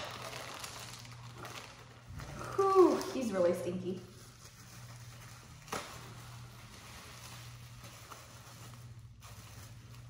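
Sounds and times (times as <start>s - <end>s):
low steady hum: 0.0s - 10.0s
plastic bag crinkling: 0.0s - 10.0s.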